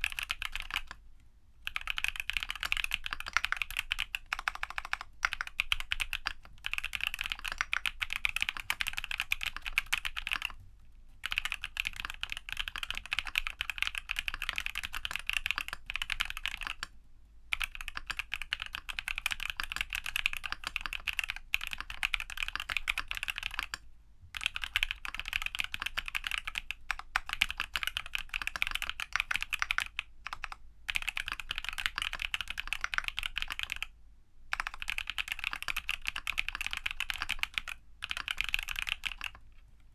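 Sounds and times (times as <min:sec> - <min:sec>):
fast typing on mechanical keyboard: 0:00.0 - 0:01.0, 0:01.6 - 0:10.6, 0:11.2 - 0:16.9, 0:17.5 - 0:23.8, 0:24.4 - 0:33.9, 0:34.5 - 0:39.4.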